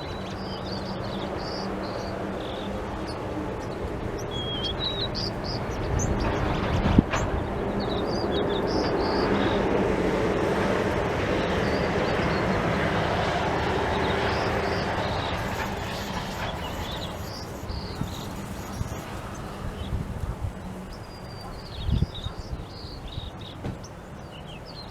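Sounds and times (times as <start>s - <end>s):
small birds chirping: 0.0s - 24.9s
passing vehicle rumble: 0.6s - 23.4s.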